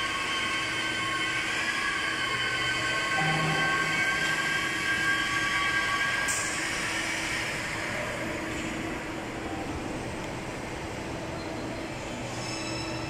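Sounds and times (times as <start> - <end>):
overhead crane motor whine: 0.0 - 12.2.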